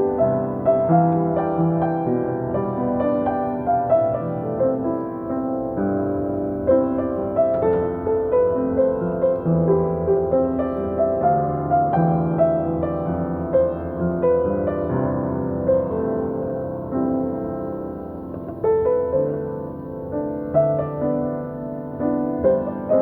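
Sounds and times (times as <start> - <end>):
solo piano ballad: 0.0 - 23.0.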